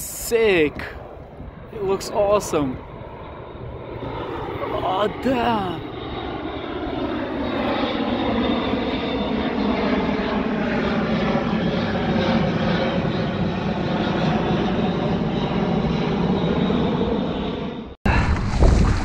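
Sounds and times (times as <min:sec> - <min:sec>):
propeller aircraft droning overhead: 0:00.0 - 0:18.6.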